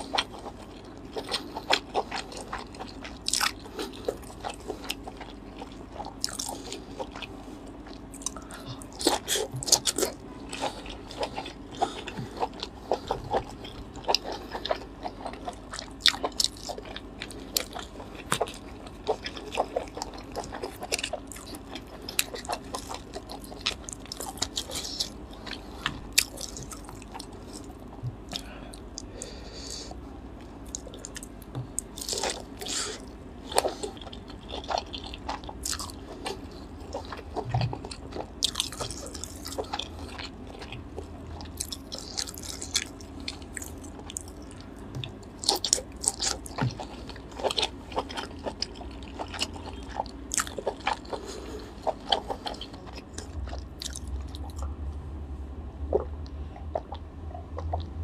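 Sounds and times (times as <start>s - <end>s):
chewing and lip-smacking: 0.0s - 29.4s, 30.4s - 55.0s, 55.9s - 58.0s
steady low hum: 0.0s - 58.0s.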